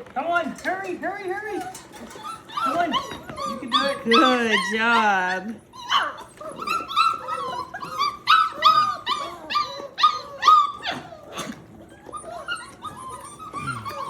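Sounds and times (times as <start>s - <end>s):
puppies whining and yipping: 0.6s - 14.0s.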